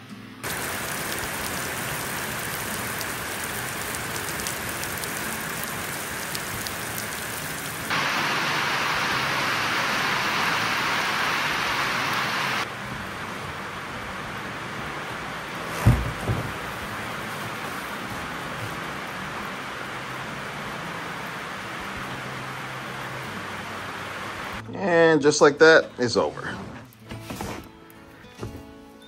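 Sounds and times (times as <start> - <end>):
steady rain falling: 0.4 - 24.6.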